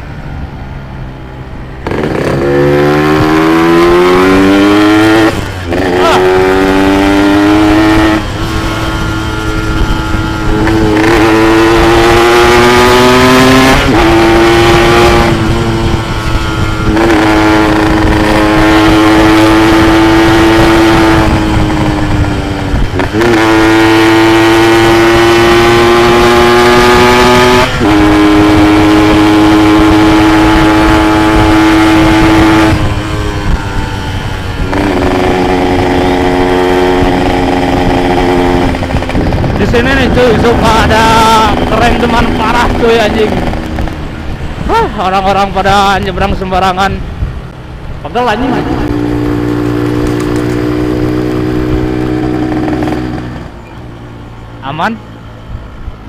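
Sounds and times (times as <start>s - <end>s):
two-stroke motorcycle engine revving: 1.8s - 53.8s.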